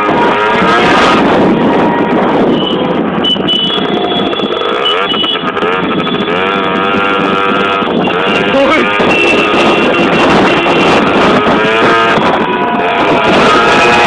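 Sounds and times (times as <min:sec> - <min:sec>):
crowd voices: 0:00.0 - 0:04.9, 0:06.4 - 0:14.0
passing vehicles: 0:00.0 - 0:14.0.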